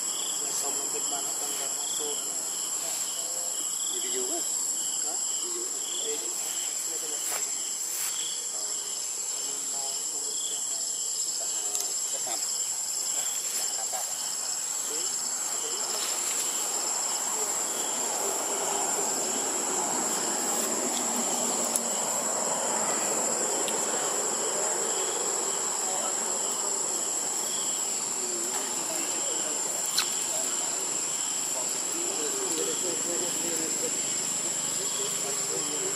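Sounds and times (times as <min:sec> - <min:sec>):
insects droning: 0:00.0 - 0:35.9
pulsing insect call: 0:00.0 - 0:35.9.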